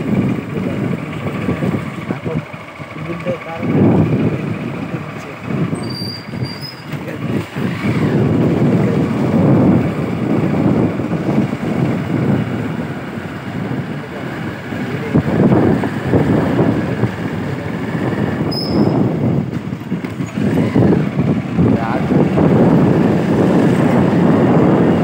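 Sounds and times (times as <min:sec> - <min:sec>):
motorbike engine running: 0:00.0 - 0:25.0
wind buffeting microphone: 0:00.0 - 0:25.0.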